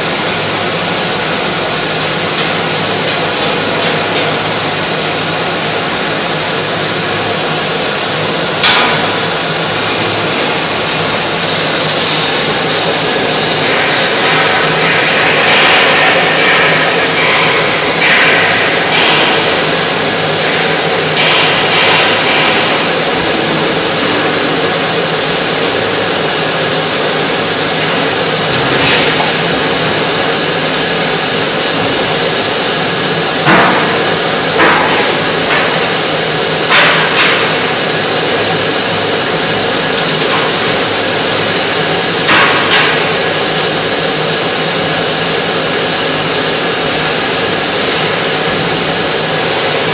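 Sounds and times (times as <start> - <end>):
loud hiss: 0.0 - 49.9.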